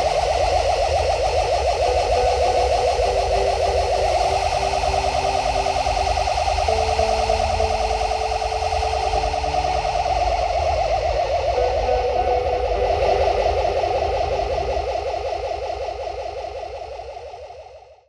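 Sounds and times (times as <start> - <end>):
held tones shifting pitch: 0.0 - 17.7
pulsing electronic drone: 0.0 - 18.0.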